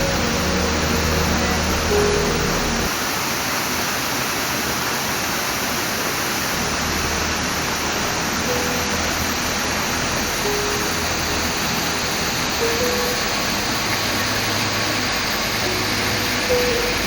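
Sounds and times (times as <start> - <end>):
waterfall pouring: 0.0 - 17.0.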